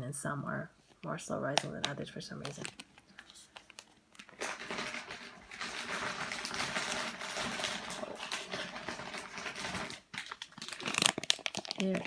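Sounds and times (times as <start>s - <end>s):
plastic packaging rustling: 1.5s - 12.0s.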